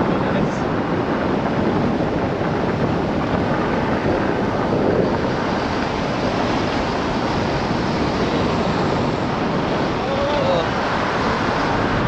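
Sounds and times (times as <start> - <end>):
car tyres on dirt road: 0.0 - 12.0
wind on microphone: 0.0 - 12.0.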